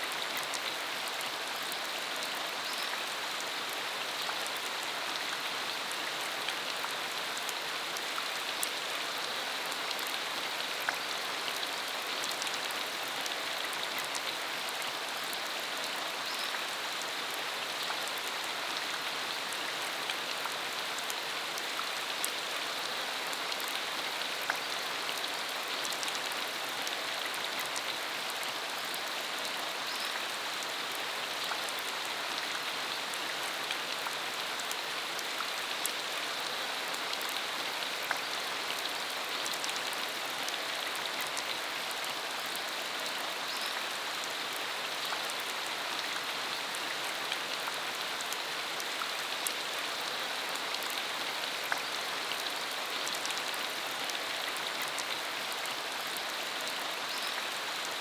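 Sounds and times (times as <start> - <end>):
rain on a dirt road: 0.0 - 58.0.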